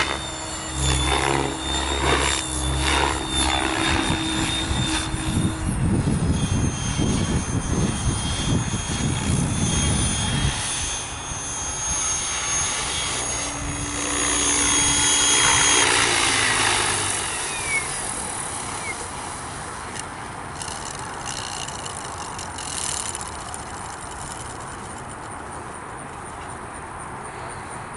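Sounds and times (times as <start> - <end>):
helicopter rotor blades whooshing: 0.0 - 26.1
high motor whine: 0.0 - 26.5.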